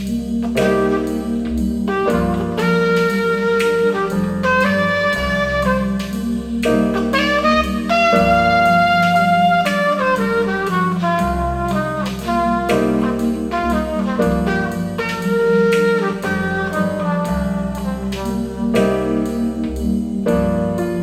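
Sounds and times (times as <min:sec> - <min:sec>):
bass and drums: 0:00.0 - 0:21.0
jazz-funk music over loudspeakers: 0:00.0 - 0:21.0
saxophone and brass melody: 0:00.0 - 0:21.0.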